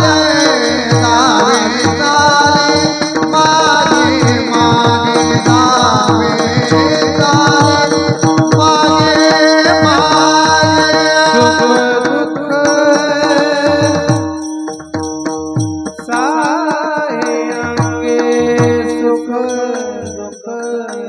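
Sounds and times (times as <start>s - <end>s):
person singing devotional song: 0.0s - 14.7s, 15.6s - 21.0s
steady held notes: 0.0s - 20.6s.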